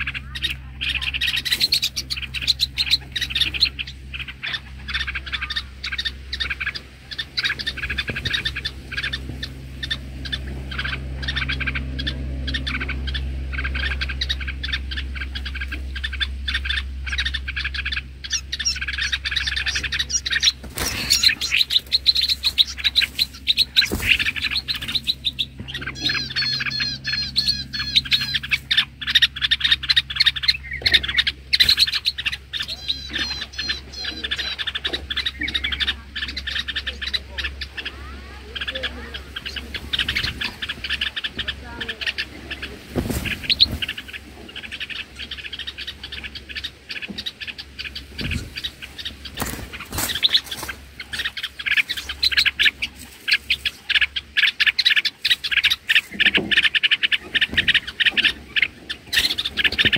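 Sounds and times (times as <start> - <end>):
bird rapid alarm chirping: 0.0 - 59.9.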